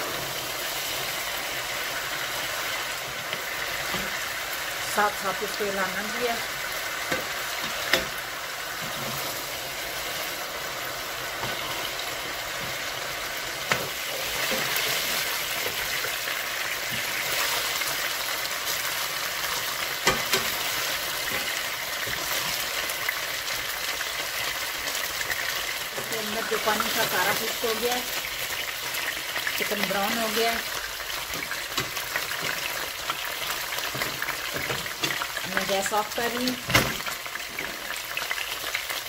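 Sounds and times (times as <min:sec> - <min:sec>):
chicken sizzling in oil: 0:00.0 - 0:39.0.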